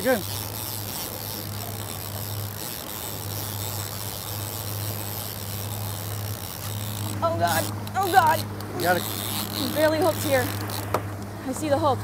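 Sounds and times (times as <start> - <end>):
boat engine humming: 0.0 - 12.0
churning wake water: 0.0 - 12.0.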